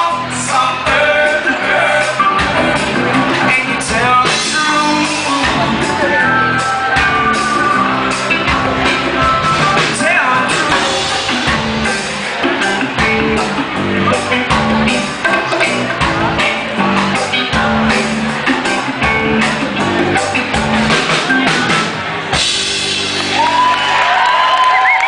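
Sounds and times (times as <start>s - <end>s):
drum kit: 0.0s - 25.0s
electric guitar: 0.0s - 25.0s.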